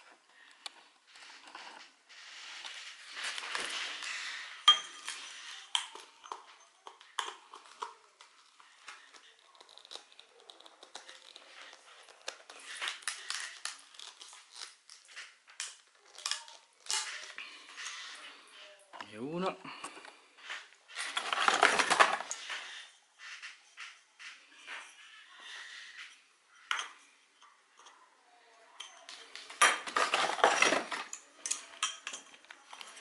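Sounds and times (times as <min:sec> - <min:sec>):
plastic wrapping crinkling: 0:00.0 - 0:18.7, 0:19.7 - 0:26.2, 0:29.1 - 0:33.0.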